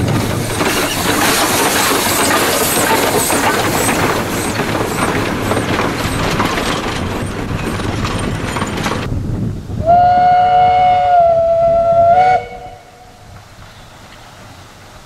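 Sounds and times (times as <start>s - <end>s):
steam locomotive rattle and hiss: 0.0s - 9.2s, 9.8s - 15.0s.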